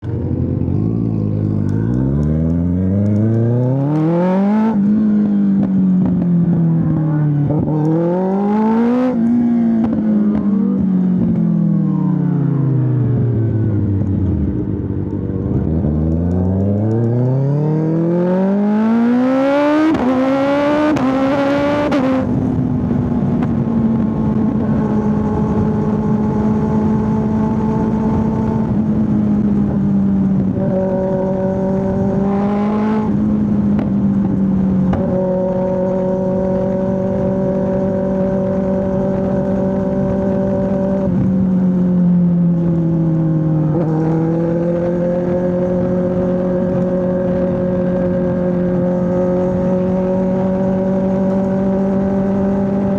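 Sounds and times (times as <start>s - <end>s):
motorcycle engine revving and cruising: 0.0s - 52.9s.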